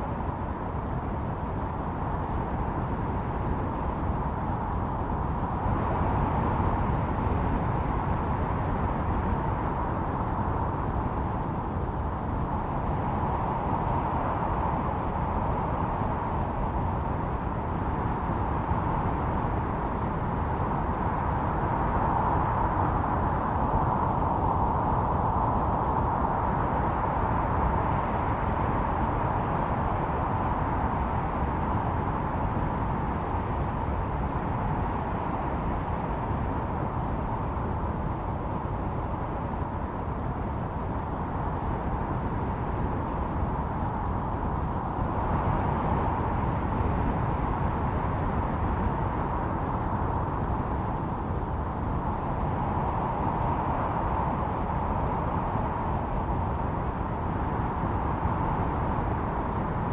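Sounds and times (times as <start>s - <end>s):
blizzard wind blowing: 0.0s - 59.9s.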